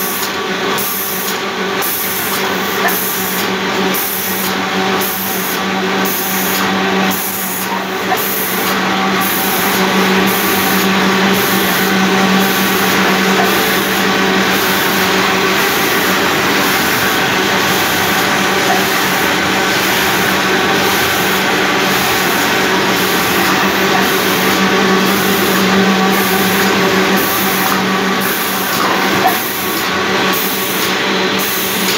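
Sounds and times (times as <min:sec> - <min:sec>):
laminating machine running: 0:00.0 - 0:31.9
pulsing high hiss: 0:03.0 - 0:31.9.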